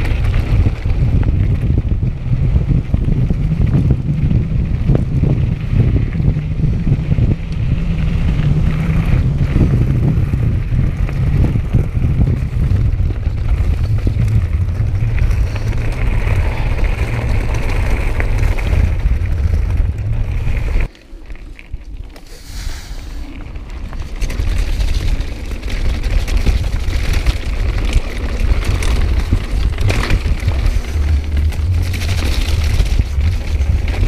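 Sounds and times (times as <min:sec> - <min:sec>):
wind buffeting microphone: 0:00.0 - 0:20.9, 0:23.2 - 0:34.0
bike tyre and trail noise: 0:00.0 - 0:34.0.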